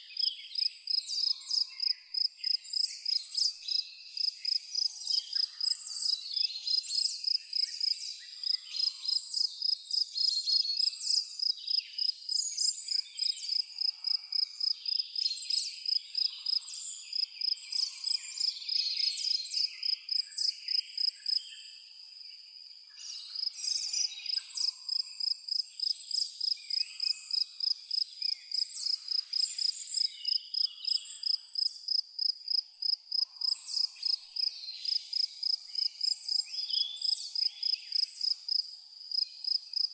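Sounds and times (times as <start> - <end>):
birds singing and calling: 0.0 - 31.8, 33.2 - 38.5
cricket chirping: 0.0 - 39.9.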